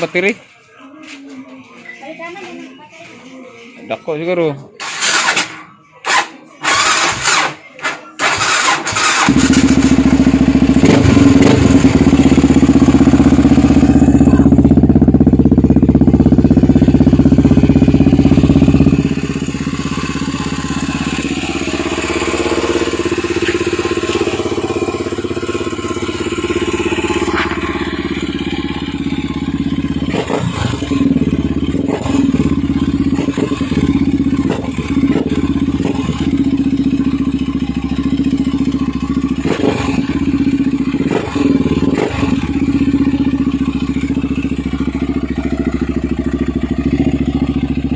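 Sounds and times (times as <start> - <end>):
motorcycle engine starting and idling: 4.8 - 47.9.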